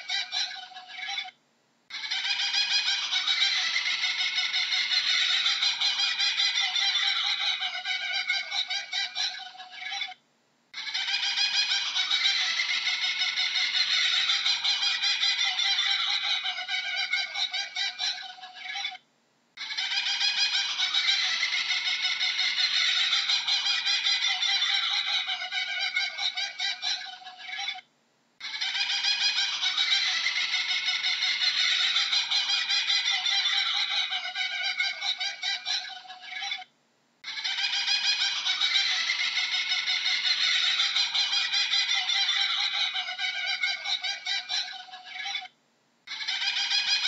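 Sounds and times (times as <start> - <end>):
kookaburra cackling call: 0.0 - 10.2, 10.8 - 47.0.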